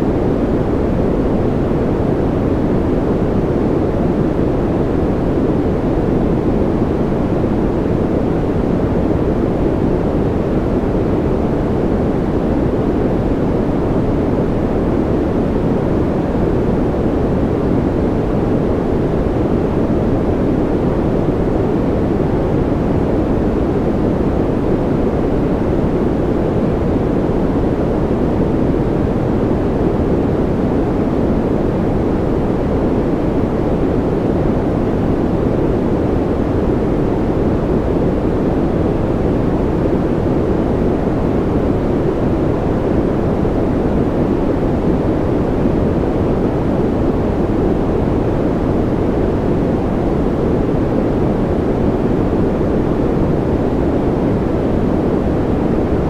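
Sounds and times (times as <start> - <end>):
deep muffled noise rush: 0.0 - 56.0.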